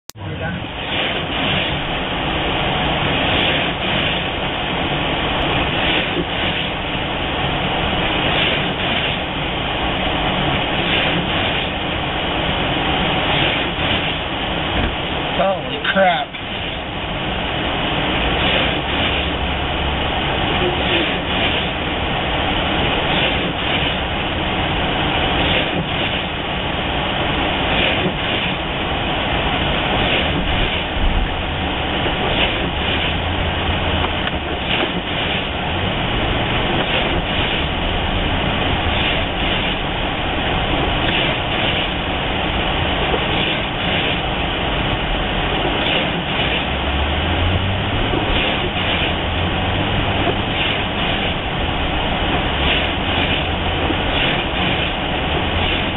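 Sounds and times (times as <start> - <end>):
car engine hum: 0.1 - 55.9
tires rushing on slushy road: 0.2 - 55.9.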